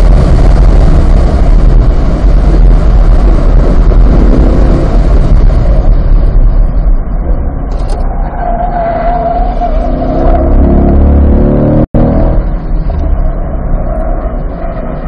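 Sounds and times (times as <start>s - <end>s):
car engine accelerating: 0.0s - 15.0s
road and wind noise: 0.0s - 15.0s.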